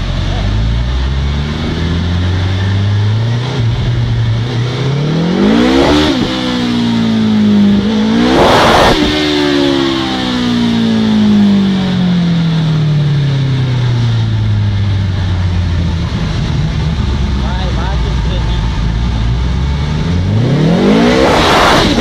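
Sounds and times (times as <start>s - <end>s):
motorcycle engine revving on dynamometer: 0.0s - 22.0s.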